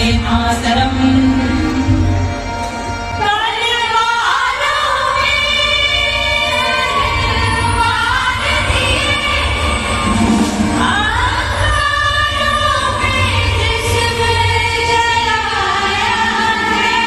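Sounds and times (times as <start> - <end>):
chorus singing over loudspeakers: 0.0 - 17.0.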